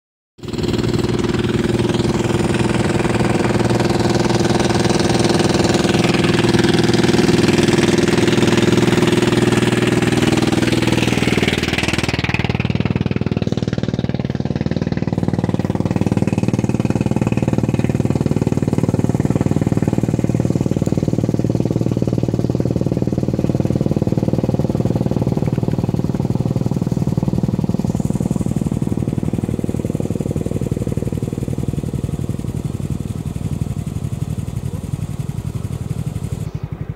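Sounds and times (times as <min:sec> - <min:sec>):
motorcycle engine running: 0:00.4 - 0:36.9.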